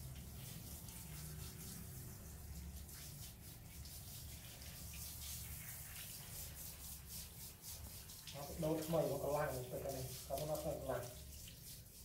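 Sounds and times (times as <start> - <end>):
water running from a tap: 0.0 - 12.0.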